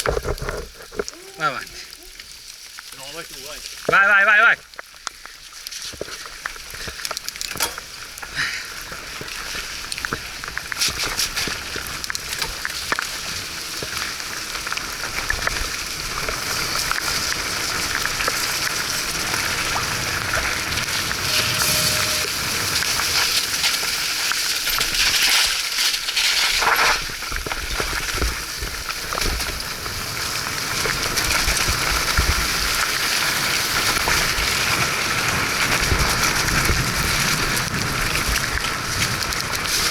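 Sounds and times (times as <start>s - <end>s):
wet bike tyres in mud: 0.0s - 39.9s
rain hissing: 7.6s - 39.9s.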